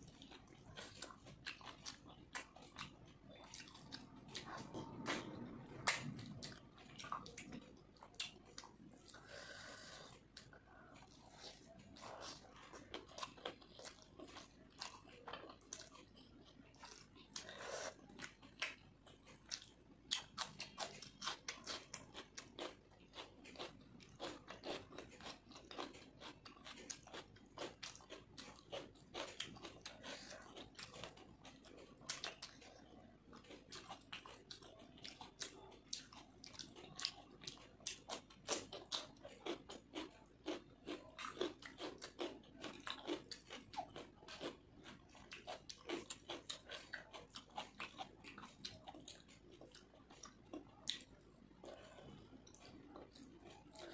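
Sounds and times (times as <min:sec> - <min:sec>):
person chewing and biting food: 0:00.1 - 0:53.9.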